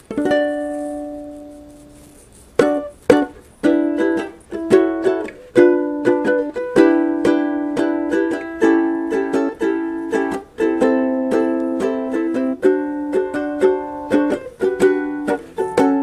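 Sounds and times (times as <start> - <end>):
strummed string instrument: 0.0 - 16.0.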